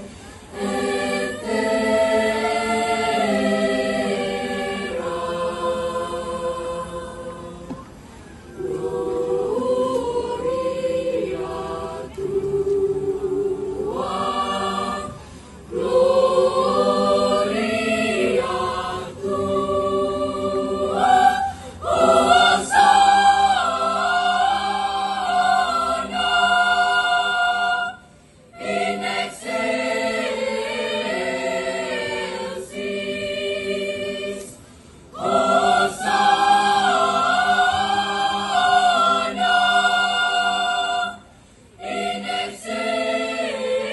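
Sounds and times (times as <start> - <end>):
youth choir singing in parts: 0.0 - 43.9.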